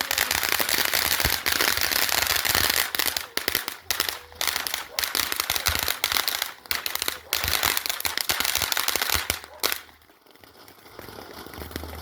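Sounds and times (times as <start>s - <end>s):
firecrackers going off: 0.0s - 12.0s.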